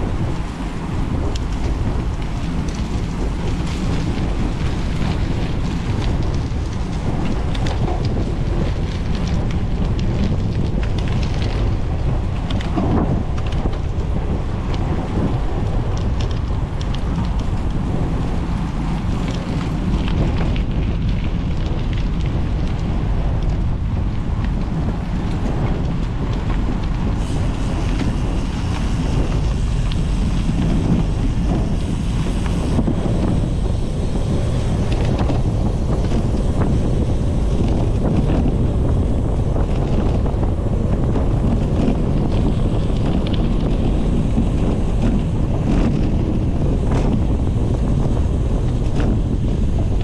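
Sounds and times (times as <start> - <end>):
bicycle tyres rolling: 0.0 - 50.0
wind on microphone: 0.0 - 50.0.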